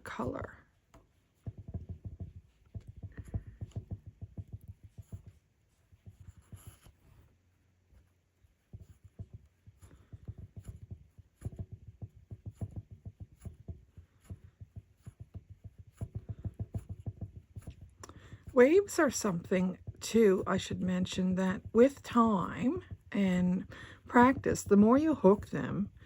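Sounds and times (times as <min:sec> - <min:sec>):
rug hook pulling wool loops: 0:00.0 - 0:26.0.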